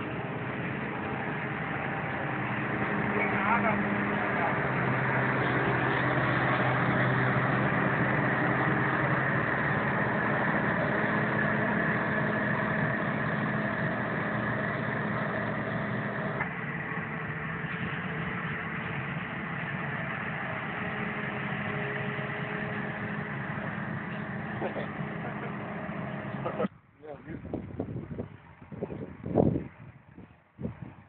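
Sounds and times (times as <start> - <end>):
harvester engine drone with whine: 0.0 - 26.8.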